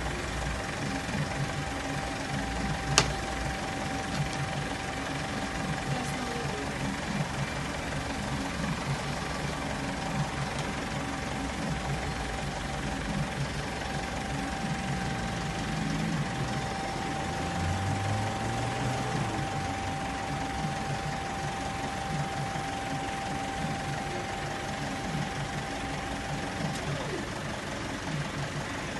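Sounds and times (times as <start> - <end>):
steady high tone: 0.0 - 28.9
vehicle engine idling: 0.0 - 28.9.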